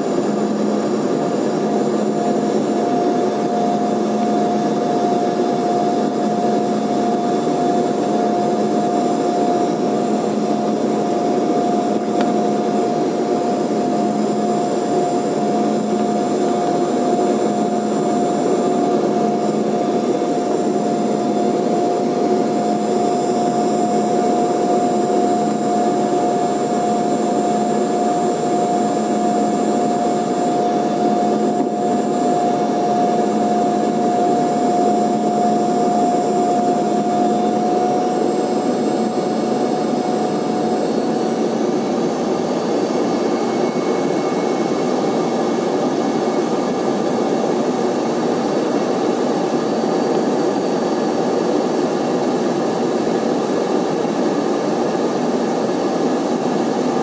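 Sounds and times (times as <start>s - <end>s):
jet engine roar with whine: 0.0s - 57.0s.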